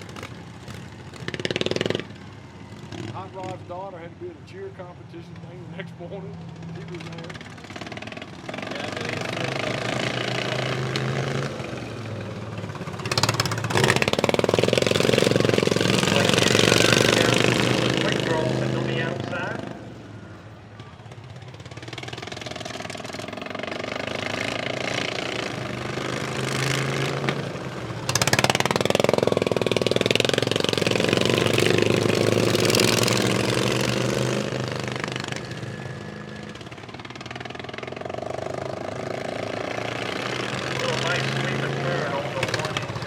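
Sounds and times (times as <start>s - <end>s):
racing lawn mower engines: 0.0s - 43.0s.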